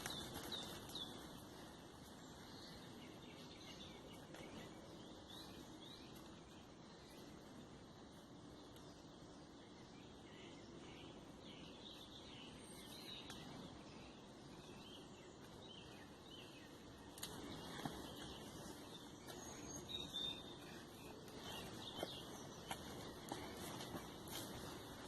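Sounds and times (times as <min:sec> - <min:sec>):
faint birdsong: 0:00.0 - 0:25.0.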